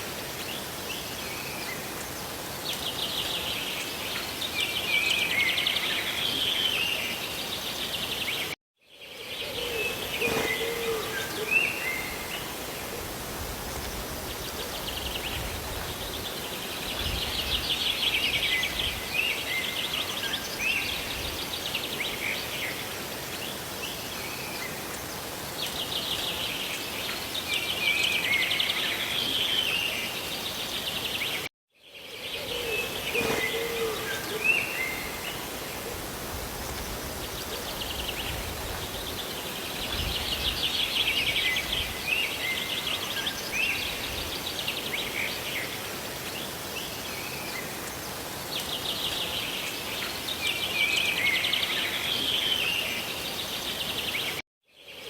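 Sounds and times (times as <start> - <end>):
rain and falling water hiss: 0.0 - 55.0
birds chirping and trilling: 9.2 - 12.6, 13.8 - 55.0.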